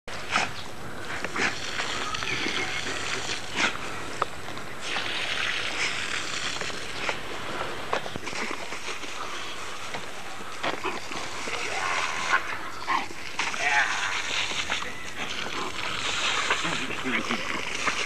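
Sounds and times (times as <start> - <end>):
garden hose spraying water: 0.1 - 18.0.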